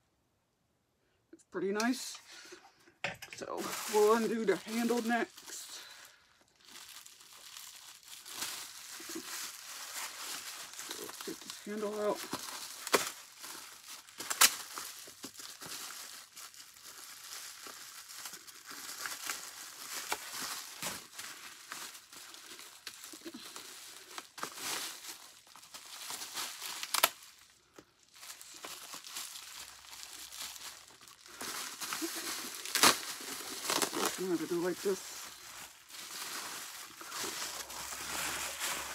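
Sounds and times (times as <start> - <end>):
packing paper crinkling: 3.3 - 38.9.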